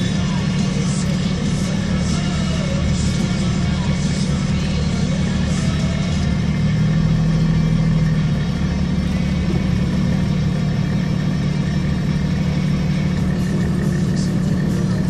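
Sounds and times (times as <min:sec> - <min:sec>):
vehicle engine droning at low speed: 0:00.0 - 0:15.0.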